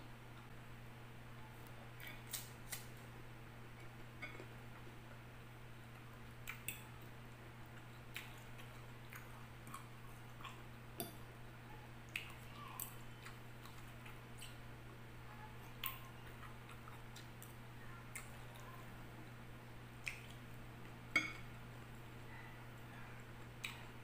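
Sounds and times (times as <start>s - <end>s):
steady low hum: 0.0s - 24.0s
quiet chewing: 1.4s - 3.1s, 3.7s - 24.0s.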